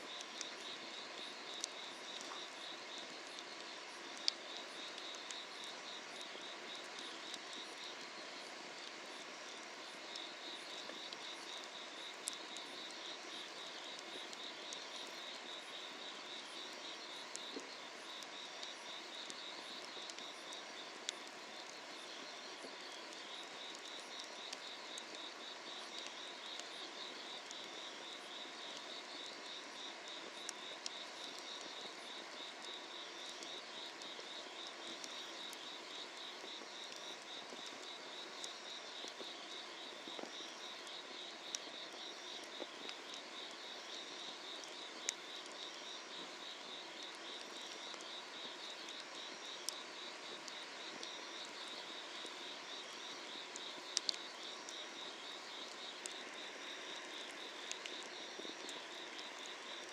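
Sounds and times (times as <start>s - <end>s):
insects chirping: 0.0s - 59.9s
wood fire crackling: 0.0s - 59.9s.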